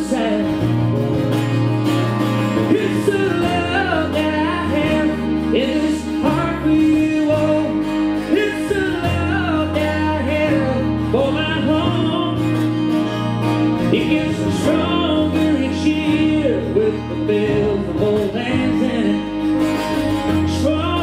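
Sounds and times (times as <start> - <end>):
man singing: 0.0 - 1.0, 2.5 - 13.0, 13.7 - 21.0
acoustic guitars: 0.0 - 21.0
keyboard low bass notes: 0.0 - 21.0.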